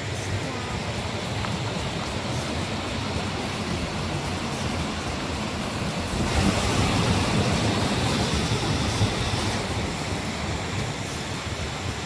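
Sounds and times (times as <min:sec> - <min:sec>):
stream water rushing over weirs: 0:00.0 - 0:12.0
wind rumbling on microphone: 0:00.0 - 0:12.0.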